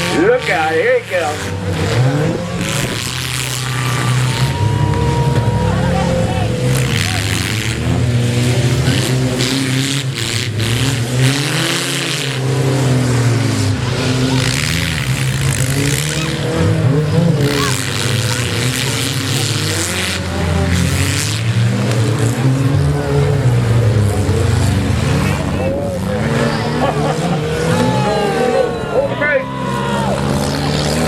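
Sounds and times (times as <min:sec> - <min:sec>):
car engines revving hard: 0:00.0 - 0:31.0.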